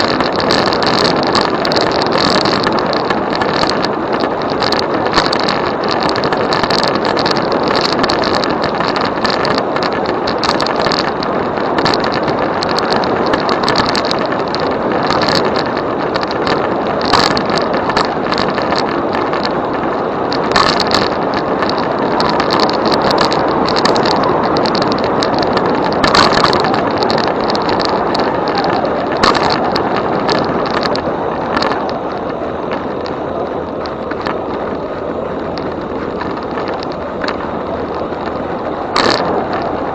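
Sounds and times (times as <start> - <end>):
bike tyre noise: 0.0 - 39.9
wind rush: 0.0 - 39.9.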